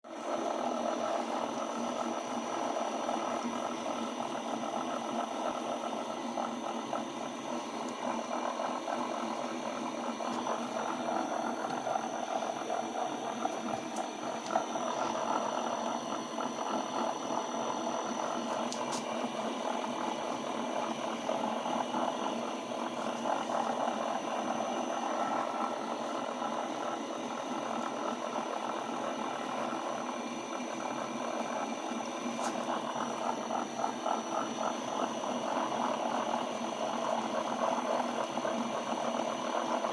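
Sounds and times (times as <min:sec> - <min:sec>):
lathe humming and whining: 0:00.1 - 0:39.9.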